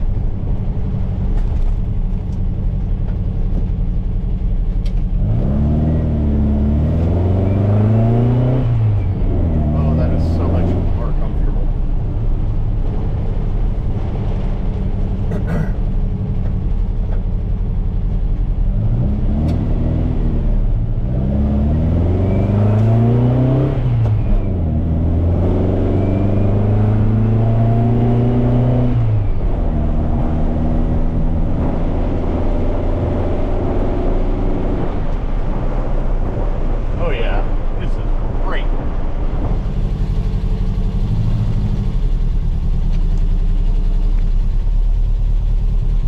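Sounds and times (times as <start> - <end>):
car engine from inside cabin: 0.0 - 46.0.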